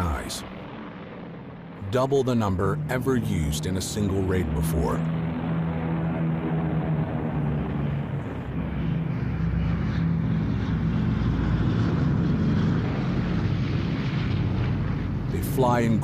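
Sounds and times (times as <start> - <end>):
piston aircraft engines droning: 0.0 - 16.0.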